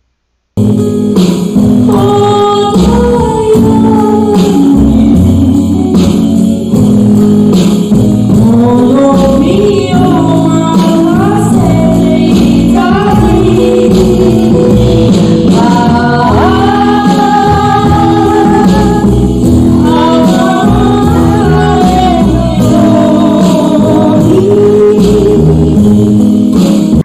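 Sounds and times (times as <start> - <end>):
small band playing: 0.6 - 27.0
woman singing ballad: 1.8 - 6.8, 8.2 - 26.1.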